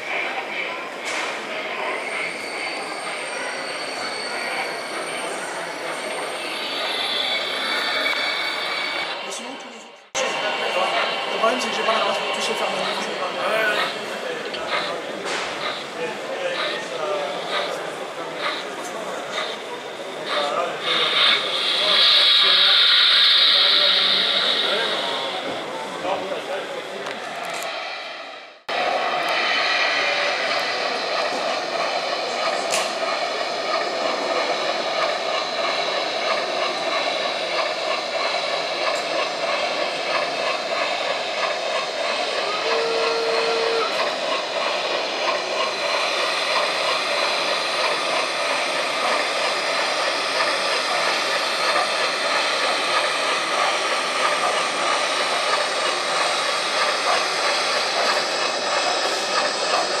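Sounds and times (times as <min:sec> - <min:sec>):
steam train rumble with hiss: 0:00.0 - 1:00.0.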